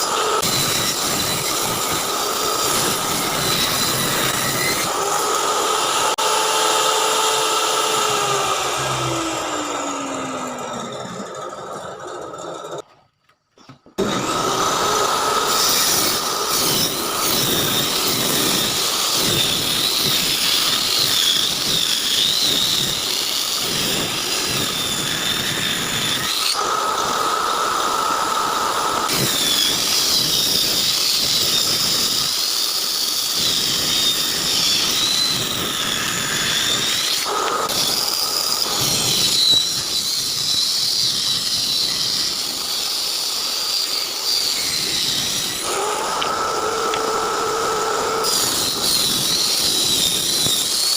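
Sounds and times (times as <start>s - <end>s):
power tool cutting wood: 0.0s - 12.8s, 13.9s - 50.9s.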